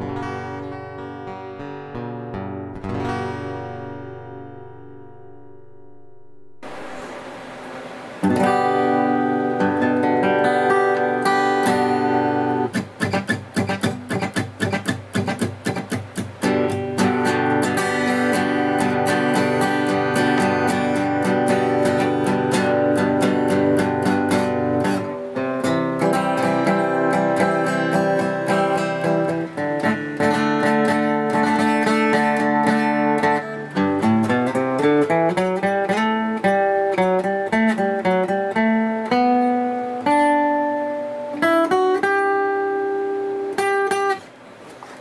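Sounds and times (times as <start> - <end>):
acoustic guitar strummed and picked: 0.0 - 45.0.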